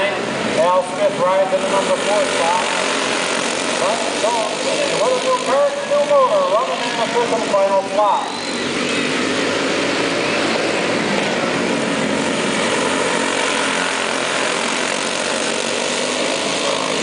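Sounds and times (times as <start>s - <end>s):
racing kart engines droning: 0.0s - 17.0s.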